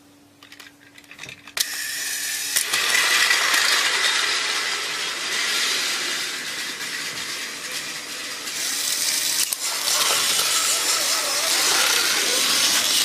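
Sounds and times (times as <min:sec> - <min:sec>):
toy train motor whirring: 0:01.5 - 0:13.0.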